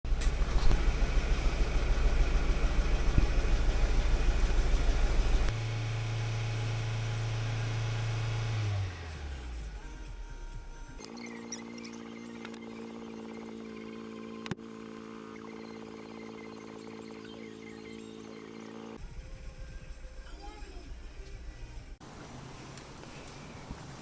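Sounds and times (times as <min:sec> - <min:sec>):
car engine running: 0:00.1 - 0:24.0.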